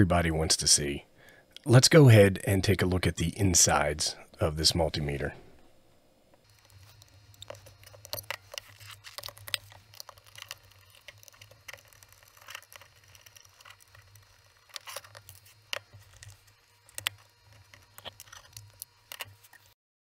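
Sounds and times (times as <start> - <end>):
faint low hum: 0.0 - 19.8.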